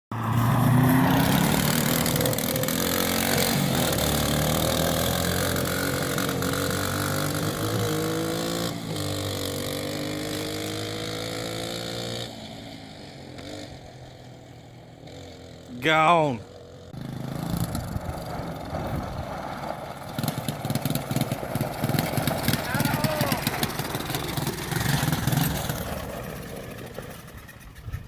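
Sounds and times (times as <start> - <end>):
three-wheeler engine running: 0.5 - 28.0.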